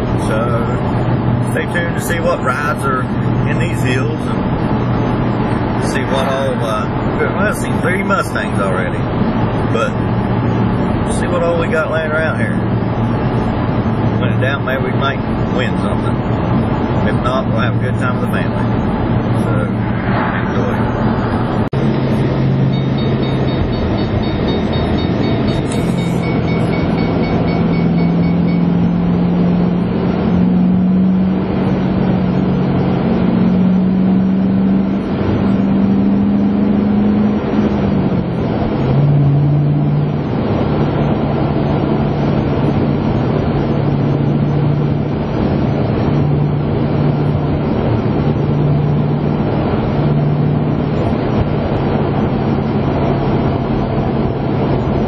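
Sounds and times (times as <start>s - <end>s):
car engine from inside cabin: 0.0s - 55.0s
road noise: 0.0s - 55.0s.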